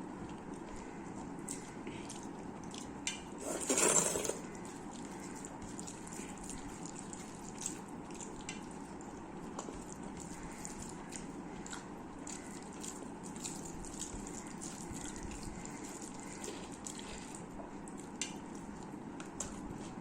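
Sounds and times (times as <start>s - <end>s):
person chewing wetly: 0.0s - 3.4s, 4.0s - 20.0s.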